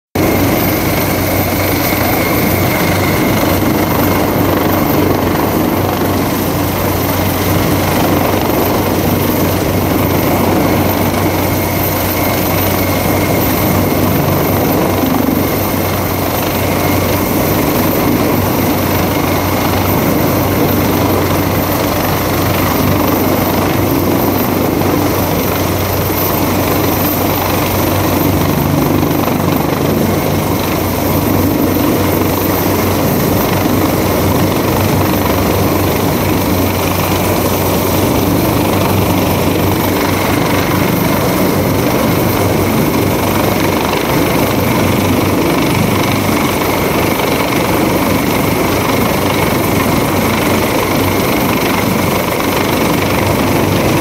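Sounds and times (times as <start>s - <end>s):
helicopter hovering overhead: 0.2s - 54.0s.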